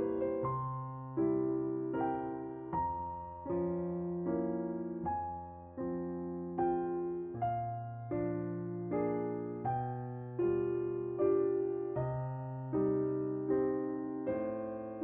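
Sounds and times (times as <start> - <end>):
slow soft piano chords: 0.0 - 15.0.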